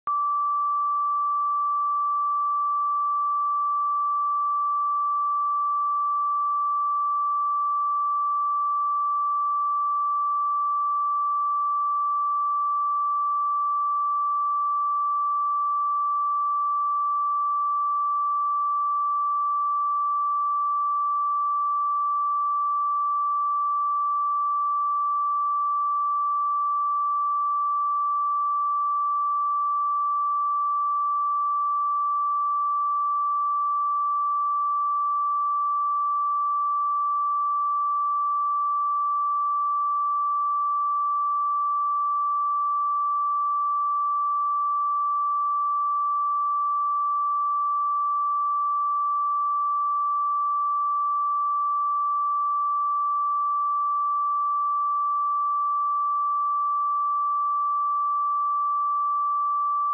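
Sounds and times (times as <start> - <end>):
high-pitched sine test tone: 0.0 - 59.9.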